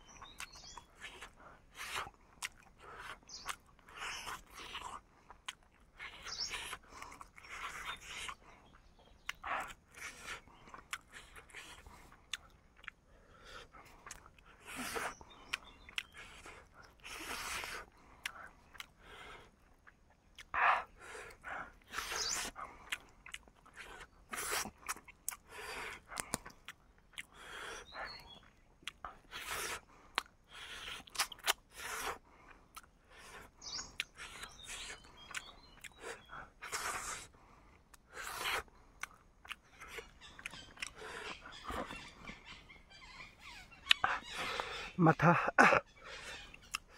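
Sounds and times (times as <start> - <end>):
chewing and crunching chicken: 0.0 - 46.9.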